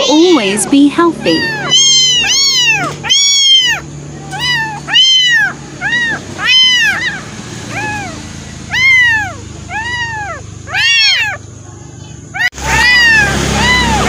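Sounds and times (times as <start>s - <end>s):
kitten meowing: 0.0s - 11.4s, 12.3s - 14.0s.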